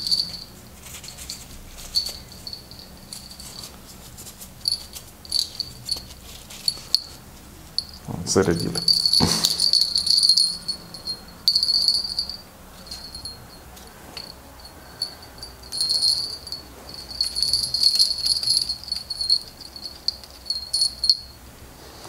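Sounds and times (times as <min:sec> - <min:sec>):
small bells jingling: 0:00.0 - 0:21.5.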